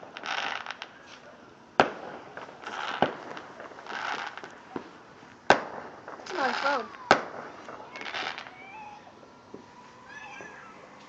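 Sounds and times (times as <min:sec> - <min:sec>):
hissing crackle: 0:00.0 - 0:10.1
firework bangs: 0:00.0 - 0:11.0.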